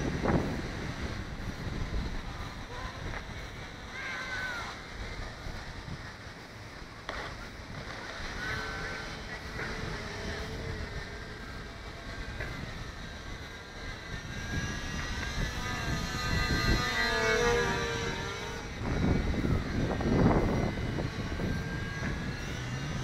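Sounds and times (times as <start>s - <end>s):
model plane motor whining: 0.0s - 23.0s
wind on microphone: 0.0s - 23.0s.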